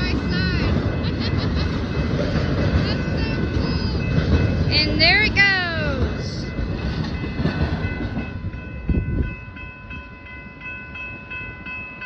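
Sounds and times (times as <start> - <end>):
freight train rumble and clatter: 0.0 - 12.0
railroad crossing bell ringing: 0.0 - 12.0.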